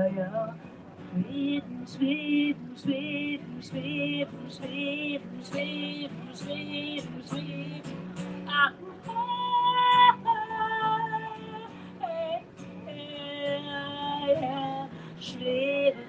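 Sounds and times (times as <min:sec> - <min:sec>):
acoustic guitar: 0:00.0 - 0:16.0
woman singing: 0:01.0 - 0:16.0.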